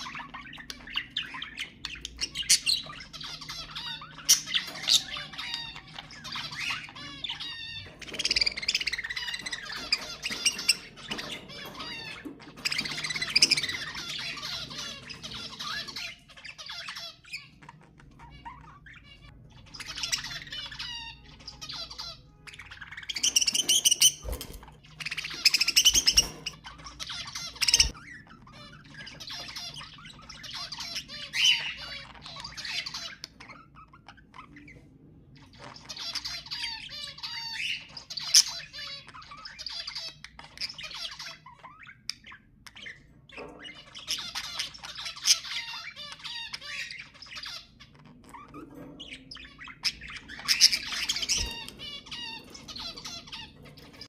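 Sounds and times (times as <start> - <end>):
budgerigars chattering and warbling: 0.0 - 54.0.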